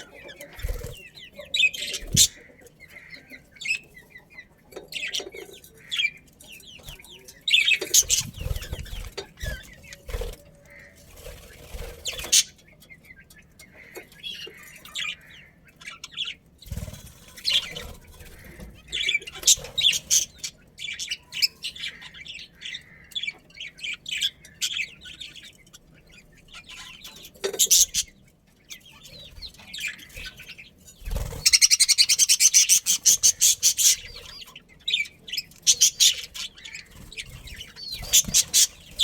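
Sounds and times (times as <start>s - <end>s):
budgerigars chirping: 0.0s - 39.0s.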